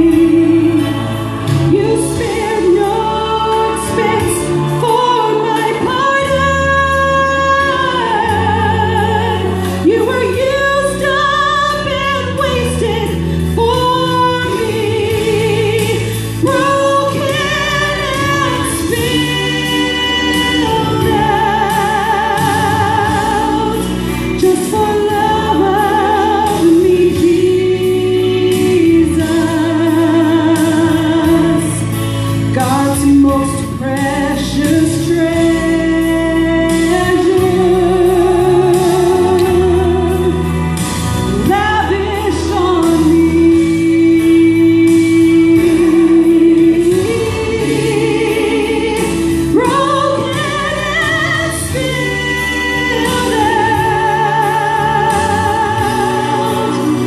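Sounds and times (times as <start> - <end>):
instrumental accompaniment: 0.0 - 57.0
woman singing into microphone: 0.0 - 57.0.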